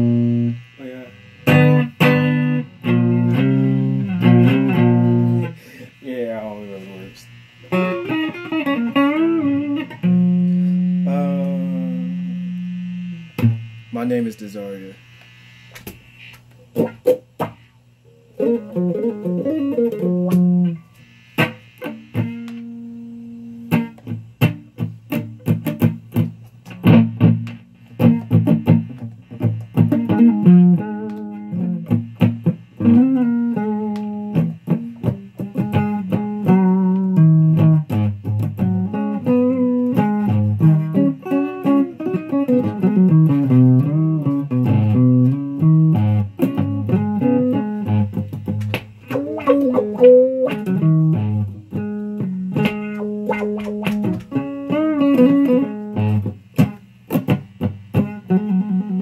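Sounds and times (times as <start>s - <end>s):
fuzz electric guitar notes: 0.0s - 59.0s.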